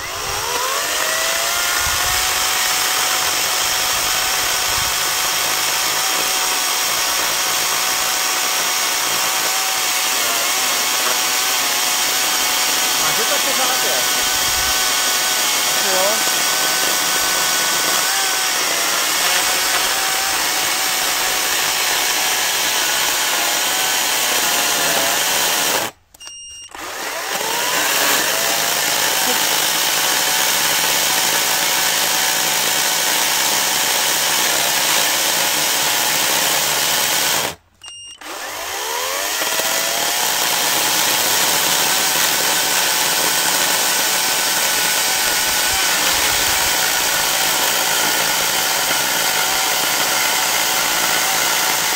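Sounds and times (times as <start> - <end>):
electric chainsaw cutting log: 0.0 - 26.0, 26.7 - 37.6, 38.2 - 51.9.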